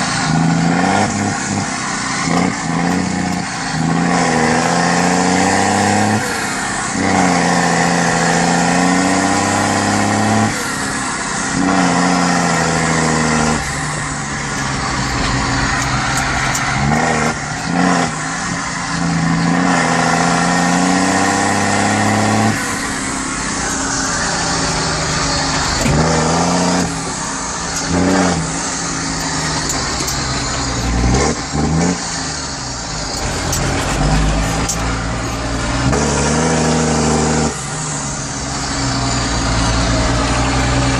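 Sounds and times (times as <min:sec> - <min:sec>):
tractor diesel engine revving: 0:00.0 - 0:40.9.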